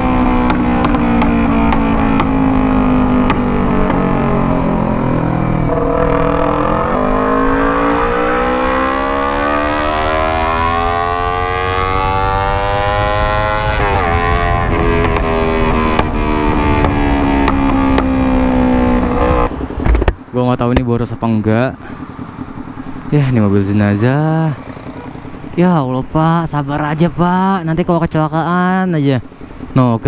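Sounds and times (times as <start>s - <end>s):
motorcycle accelerating through gears: 0.0s - 26.8s
low wind rumble: 0.0s - 30.0s.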